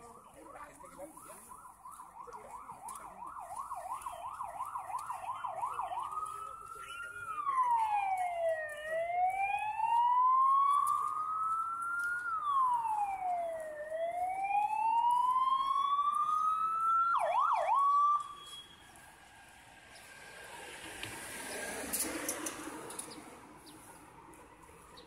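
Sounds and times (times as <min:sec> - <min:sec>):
emergency vehicle siren: 0:00.0 - 0:25.0.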